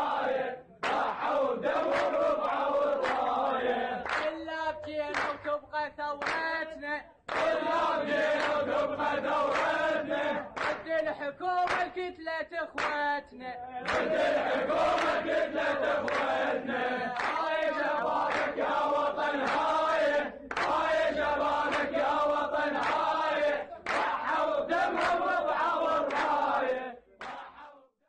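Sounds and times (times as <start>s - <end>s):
crowd chanting in unison: 0.0s - 27.9s
hand claps: 0.8s - 13.2s, 13.8s - 27.7s.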